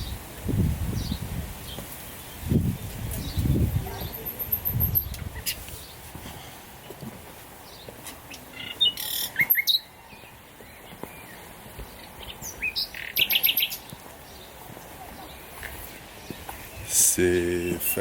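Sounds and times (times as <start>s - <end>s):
faint outdoor background: 0.0s - 18.0s
small birds chirping: 0.9s - 18.0s.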